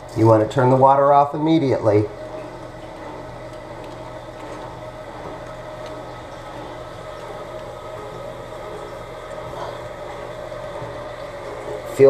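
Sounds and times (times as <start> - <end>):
toilet tank filling: 0.0 - 12.0
constant low hum: 1.8 - 12.0.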